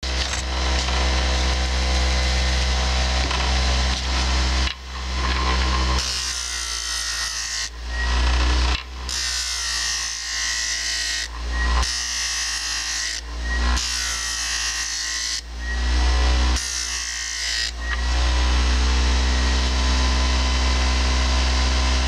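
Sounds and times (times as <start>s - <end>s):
bench grinder grinding metal: 0.0s - 22.0s.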